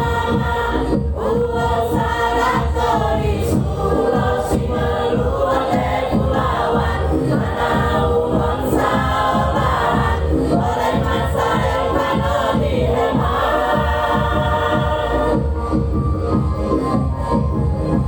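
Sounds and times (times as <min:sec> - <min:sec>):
choir singing: 0:00.0 - 0:15.6
accompaniment with steady beat: 0:00.0 - 0:18.0.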